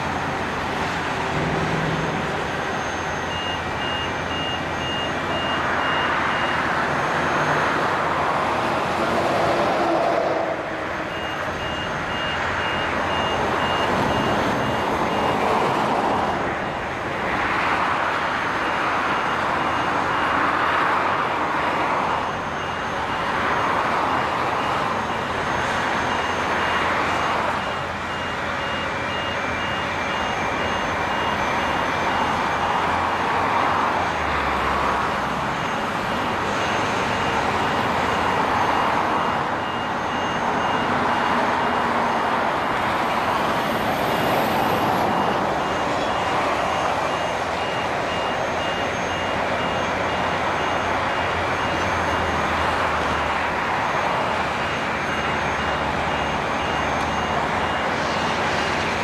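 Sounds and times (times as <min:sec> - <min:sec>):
backup alarm beeping: 0:00.0 - 0:09.4, 0:10.6 - 0:16.4, 0:17.4 - 0:59.0
heavy construction machinery running: 0:00.0 - 0:59.0.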